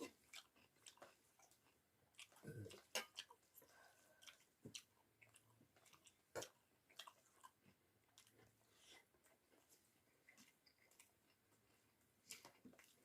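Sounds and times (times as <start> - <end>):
chewing and wet mouth smacks: 0.0 - 13.0.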